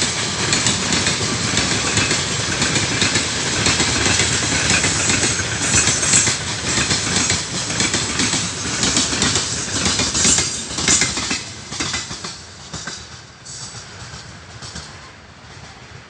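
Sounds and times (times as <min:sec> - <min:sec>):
wheels clicking over rail joints: 0:00.0 - 0:15.8
freight train passing: 0:00.0 - 0:16.0.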